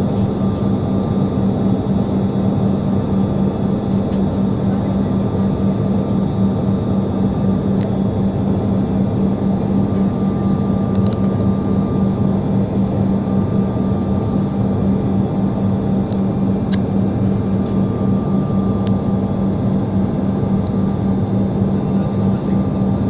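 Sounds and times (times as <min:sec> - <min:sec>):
airliner engines droning in cabin: 0:00.0 - 0:23.0.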